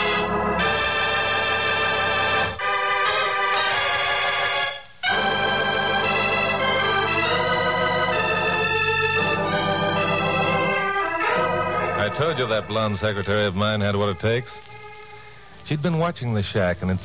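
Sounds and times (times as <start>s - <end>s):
organ playing held chords: 0.0s - 16.2s.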